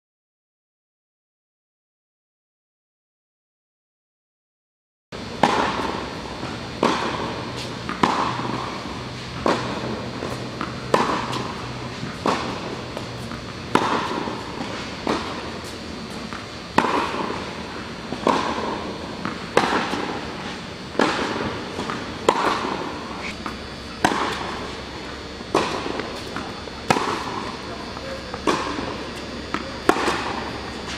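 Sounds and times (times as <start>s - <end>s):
racket striking tennis ball: 5.3s - 30.9s.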